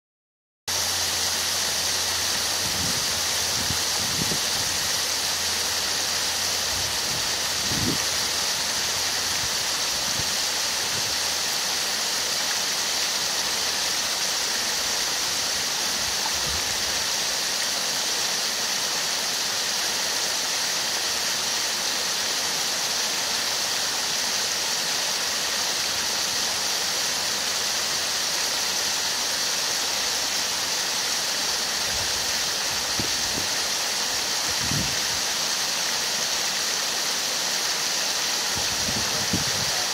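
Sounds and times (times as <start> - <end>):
waterfall splashing into pond: 0.7 - 39.9.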